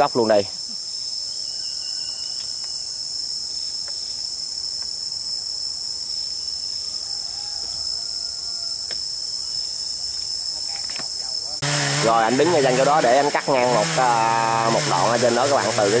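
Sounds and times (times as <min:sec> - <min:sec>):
insect chorus droning: 0:00.0 - 0:16.0.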